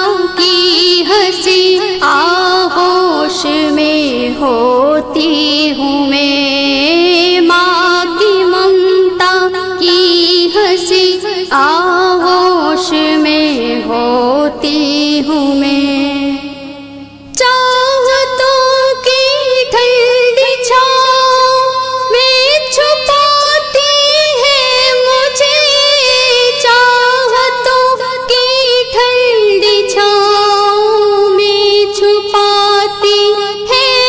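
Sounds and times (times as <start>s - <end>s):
woman singing slow song: 0.0s - 34.0s.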